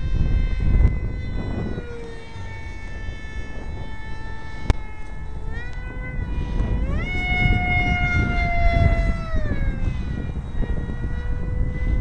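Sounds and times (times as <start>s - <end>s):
electric motor and propeller whine: 0.0s - 12.0s
wind rumble on microphone: 0.0s - 12.0s.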